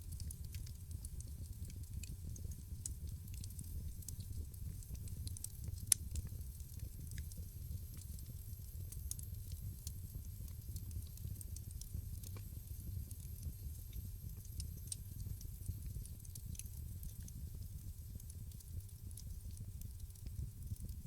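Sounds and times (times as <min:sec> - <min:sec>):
wood fire crackling in fireplace: 0:00.0 - 0:21.0.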